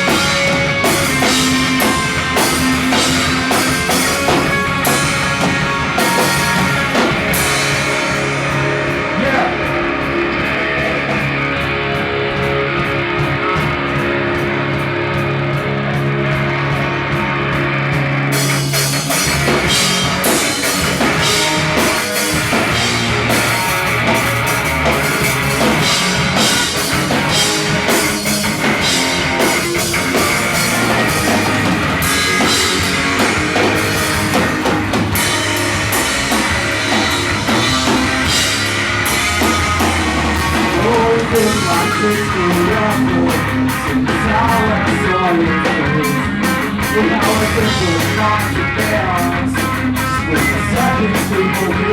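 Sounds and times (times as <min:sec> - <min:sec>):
drum kit with cymbals: 0:00.0 - 0:51.9
electric guitars: 0:00.0 - 0:51.9.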